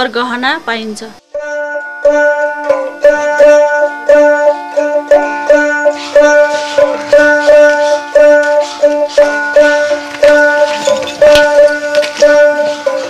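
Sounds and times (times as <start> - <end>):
plucked string melody: 1.2 - 13.0.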